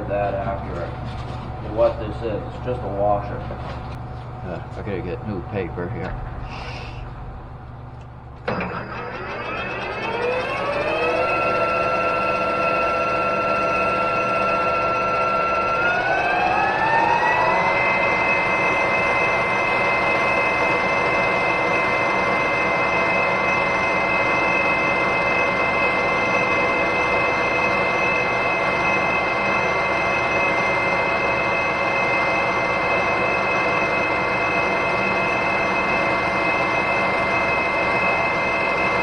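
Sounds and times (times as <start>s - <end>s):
metal lathe whining: 0.0s - 39.0s.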